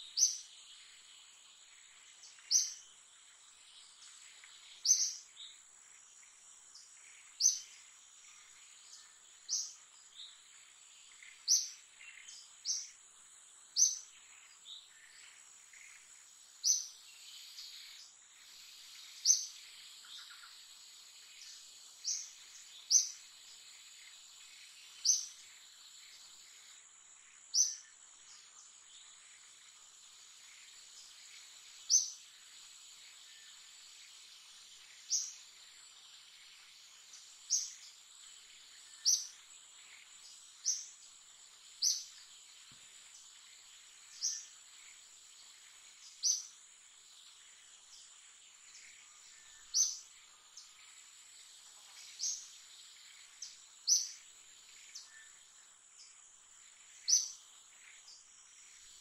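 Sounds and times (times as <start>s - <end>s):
bird chirping: 0.0s - 59.0s
faint insect drone: 0.0s - 59.0s.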